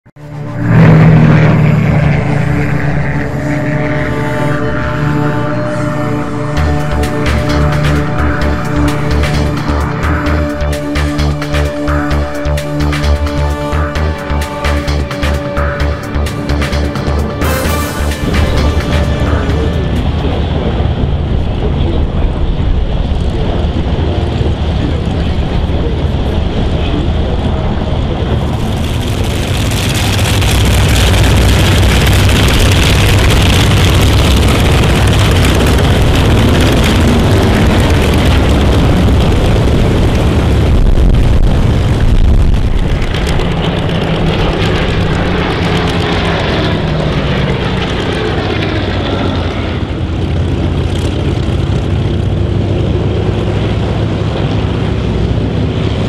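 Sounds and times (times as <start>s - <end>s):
propeller aircraft engine: 0.0s - 56.0s
aircraft engine taxiing: 0.1s - 56.0s.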